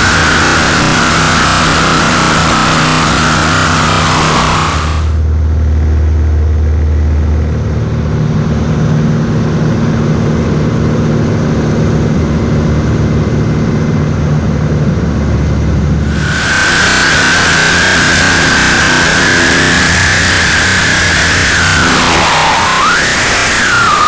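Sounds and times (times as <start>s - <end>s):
plane engine and propeller droning: 0.0s - 24.0s.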